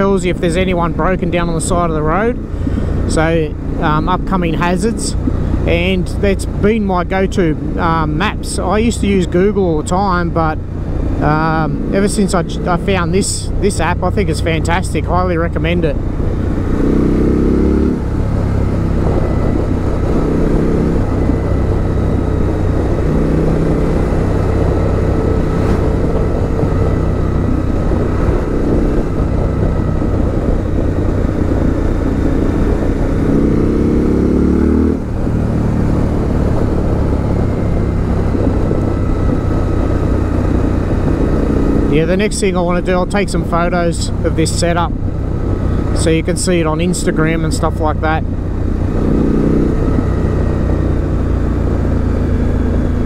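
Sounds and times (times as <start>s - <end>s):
motorcycle engine running: 0.0s - 53.0s
wind noise: 0.0s - 53.0s.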